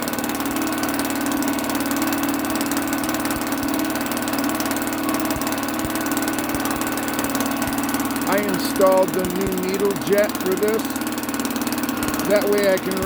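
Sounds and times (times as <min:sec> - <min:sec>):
outboard engine running: 0:00.0 - 0:13.0.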